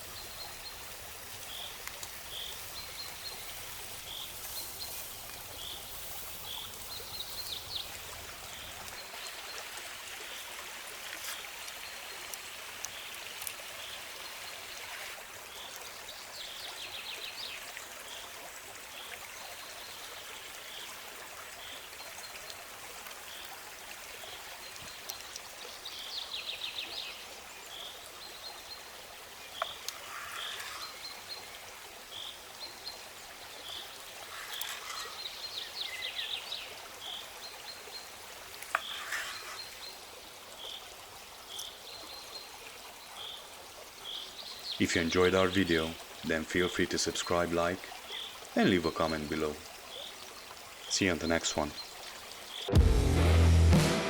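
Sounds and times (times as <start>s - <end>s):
stream flowing: 0.0s - 52.8s.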